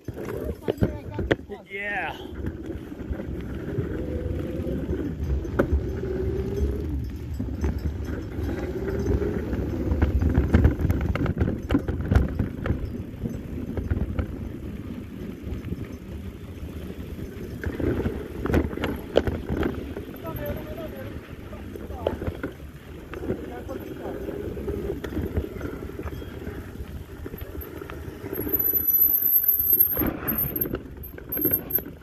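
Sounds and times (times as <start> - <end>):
bike clicks and rattles: 0.0 - 32.0
bike tyres rumbling on dirt: 0.0 - 32.0.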